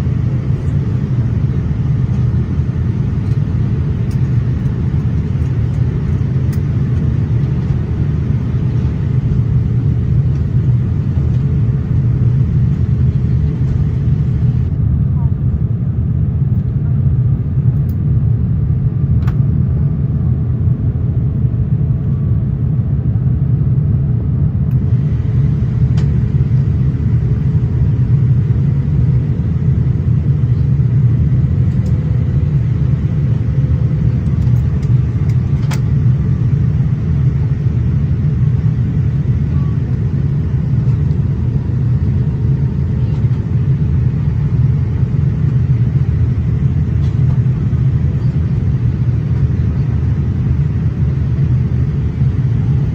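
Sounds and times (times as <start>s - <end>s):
airplane cabin rumble: 0.0s - 52.9s.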